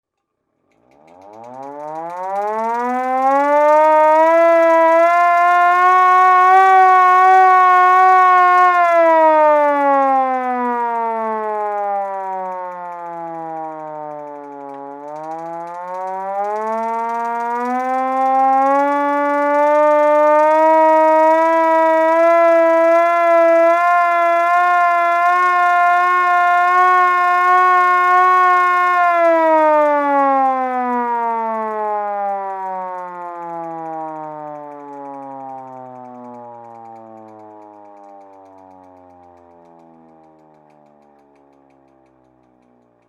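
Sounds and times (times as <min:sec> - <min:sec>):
hand-cranked siren wailing: 0:00.7 - 0:43.0.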